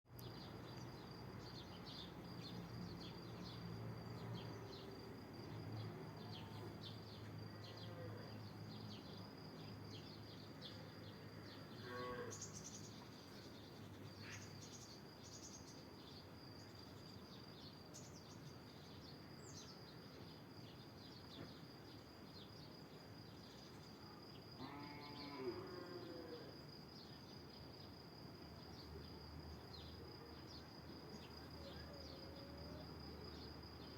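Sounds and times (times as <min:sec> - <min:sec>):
insect trill: 0:00.1 - 0:33.9.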